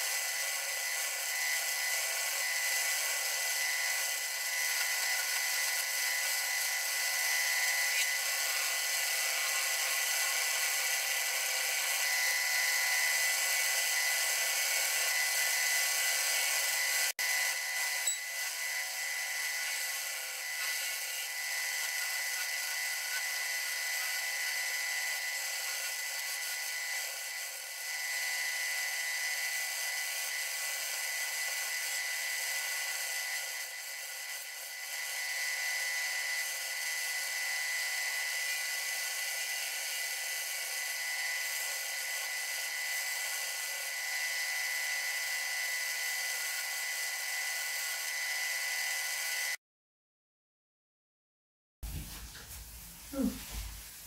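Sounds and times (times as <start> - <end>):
wood lathe whining: 0.0 - 49.6.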